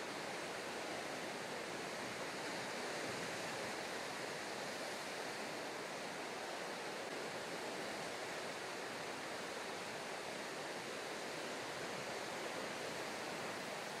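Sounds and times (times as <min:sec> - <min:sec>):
rippling seawater: 0:00.0 - 0:14.0.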